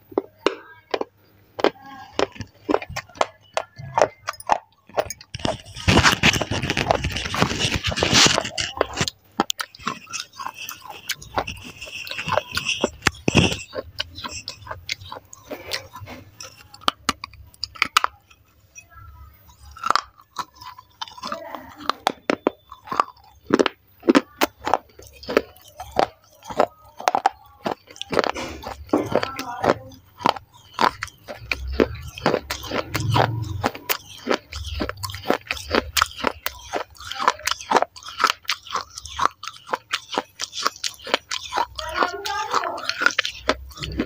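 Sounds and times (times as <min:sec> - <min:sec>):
crunching of clay pieces chewed: 0:00.0 - 0:44.0.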